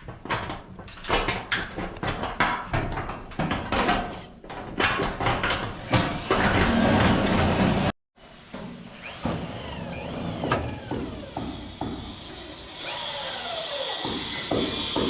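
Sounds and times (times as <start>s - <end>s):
knocks and clattering: 0.0s - 12.7s, 13.9s - 15.0s.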